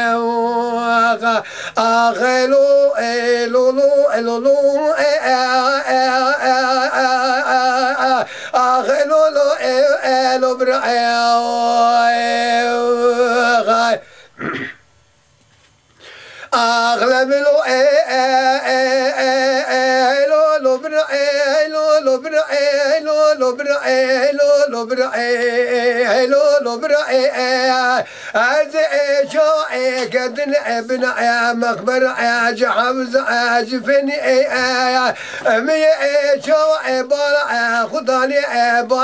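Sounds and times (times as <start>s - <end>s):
man singing unaccompanied: 0.0s - 14.3s, 16.4s - 39.0s.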